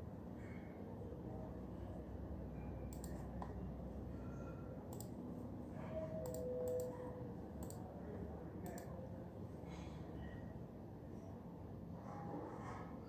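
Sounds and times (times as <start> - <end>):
low office room hum: 0.0 - 13.0.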